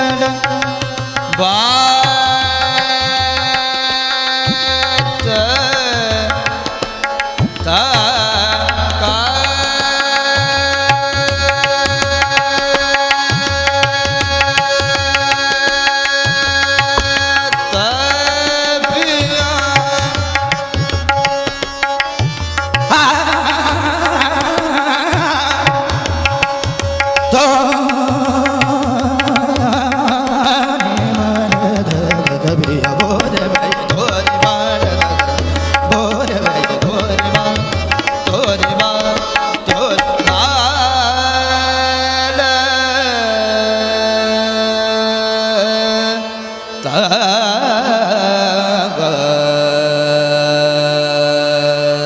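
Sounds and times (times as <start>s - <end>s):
tabla drumming: 0.0s - 44.2s
harmonium: 0.0s - 52.0s
man singing: 0.0s - 52.0s.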